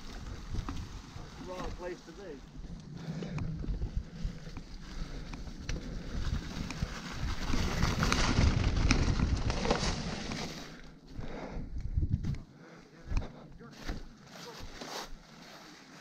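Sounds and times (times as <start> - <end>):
bike tyres over leaves and dirt: 0.0 - 11.5, 13.6 - 16.0.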